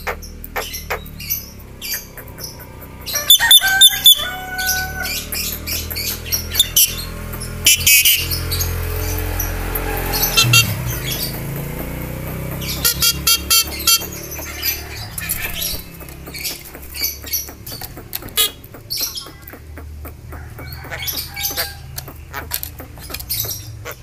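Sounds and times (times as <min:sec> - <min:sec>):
myna bird calling: 0:00.0 - 0:24.0.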